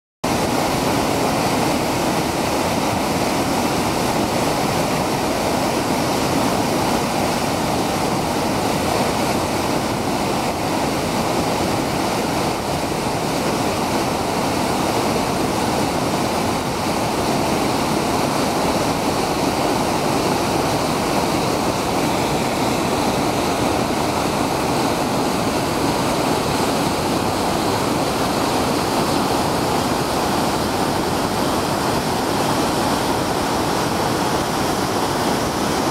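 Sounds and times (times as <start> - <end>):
waterfall pouring over rocks: 0.3 - 35.9.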